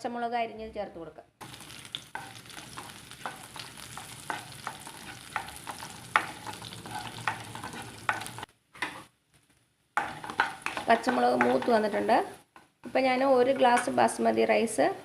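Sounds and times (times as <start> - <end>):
chillies sizzling in hot oil: 1.4 - 9.2, 10.0 - 15.0.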